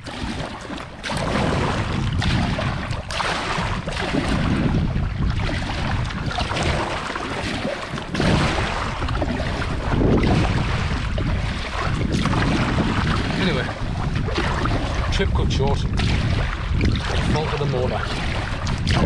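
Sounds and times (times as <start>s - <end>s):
paddle strokes splashing: 0.0s - 19.0s
wind noise on microphone: 0.0s - 19.0s.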